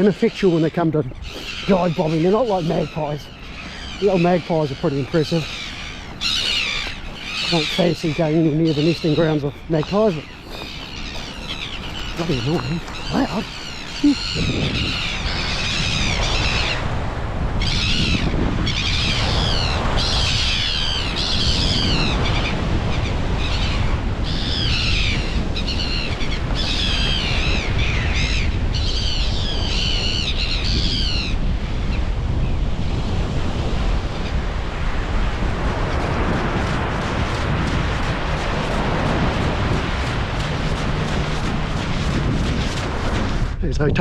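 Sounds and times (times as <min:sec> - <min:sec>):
seagulls calling: 0:00.0 - 0:17.0, 0:17.6 - 0:32.1, 0:35.8 - 0:44.0
surf: 0:00.0 - 0:44.0
wind: 0:00.0 - 0:44.0.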